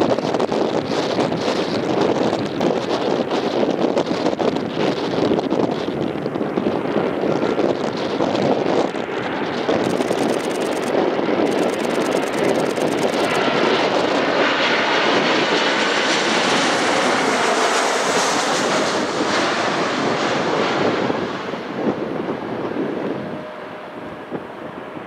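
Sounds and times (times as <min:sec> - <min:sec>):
jet airliner passing overhead: 0:00.0 - 0:25.0.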